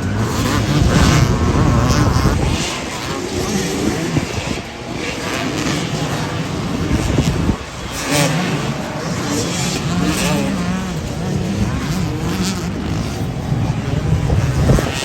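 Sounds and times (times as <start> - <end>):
motorcycle engine running: 0.0 - 15.0
street noise: 0.0 - 15.0.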